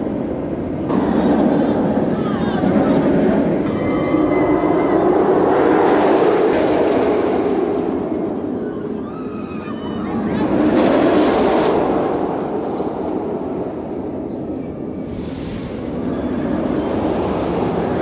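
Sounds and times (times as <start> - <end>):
roller coaster rumbling rush: 0.0 - 18.0.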